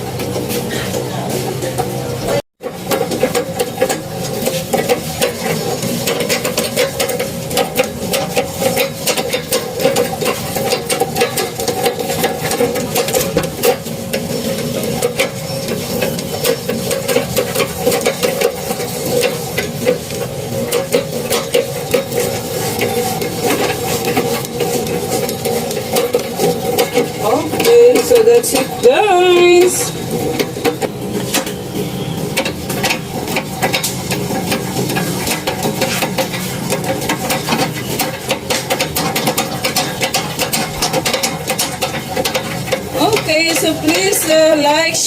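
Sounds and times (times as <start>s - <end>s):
treadle sewing machine clattering: 0.0s - 45.0s.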